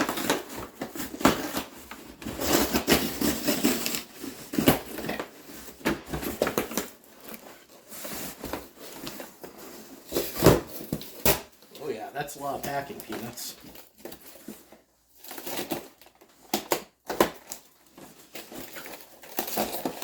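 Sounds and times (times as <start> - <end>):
packing peanuts rustling and squeaking: 0.0 - 20.0.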